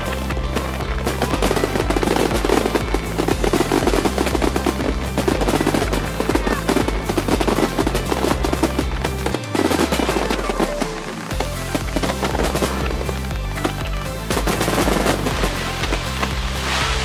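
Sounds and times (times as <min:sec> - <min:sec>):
fireworks bangs and crackle: 0:00.0 - 0:17.0
music with held bass notes: 0:00.0 - 0:17.0.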